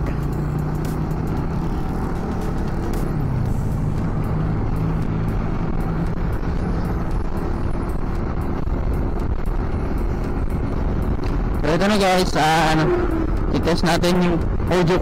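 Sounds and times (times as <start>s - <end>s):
motorcycle engine hum: 0.0s - 15.0s
wind and road noise: 0.0s - 15.0s.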